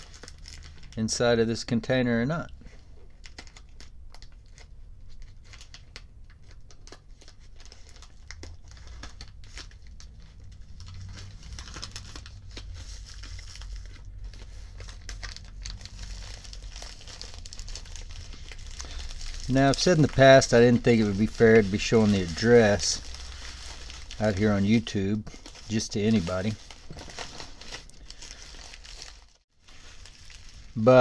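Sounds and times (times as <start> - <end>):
plastic mailer crinkling: 0.0 - 1.2, 3.0 - 31.0.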